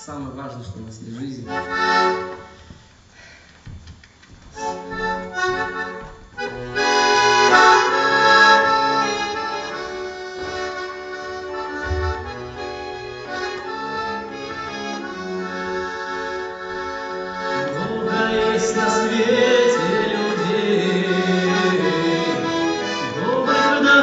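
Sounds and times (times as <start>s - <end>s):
accordion playing chords: 1.4s - 3.0s, 4.5s - 24.0s.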